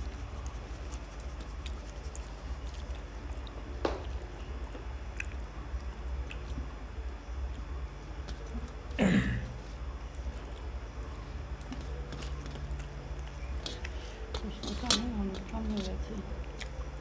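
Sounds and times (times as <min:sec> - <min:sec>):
chewing: 0:00.0 - 0:06.8, 0:10.1 - 0:17.0
fingers mixing rice: 0:00.0 - 0:06.8, 0:09.6 - 0:17.0
steady low hum: 0:00.0 - 0:17.0.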